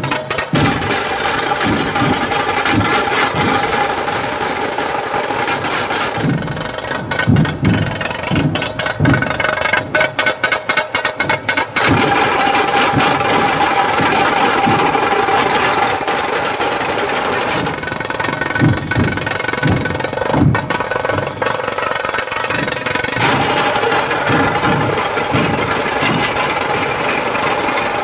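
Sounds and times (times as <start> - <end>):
street procession din: 0.0 - 28.0
low drum thumps: 0.6 - 10.2, 11.2 - 27.9.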